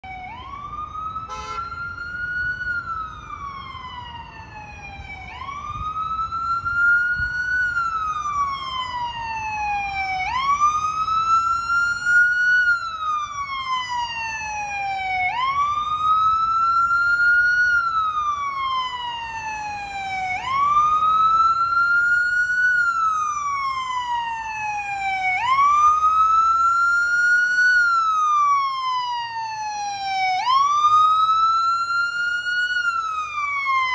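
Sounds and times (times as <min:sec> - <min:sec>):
fire engine siren wailing: 0:00.0 - 0:33.9.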